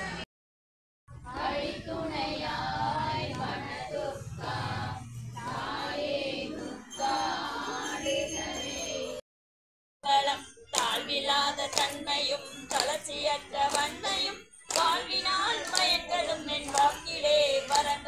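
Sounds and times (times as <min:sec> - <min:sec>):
women chanting prayers in unison: 0:01.1 - 0:09.2, 0:10.1 - 0:18.0.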